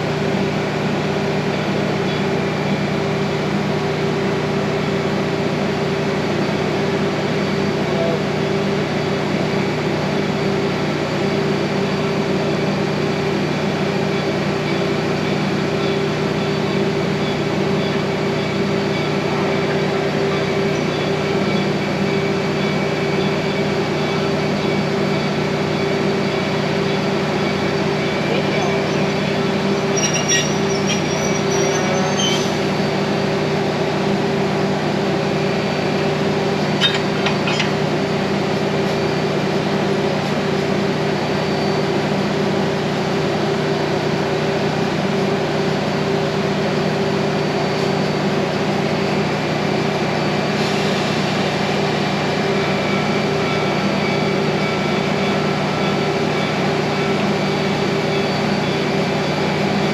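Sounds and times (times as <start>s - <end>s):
train engine droning: 0.0s - 59.9s.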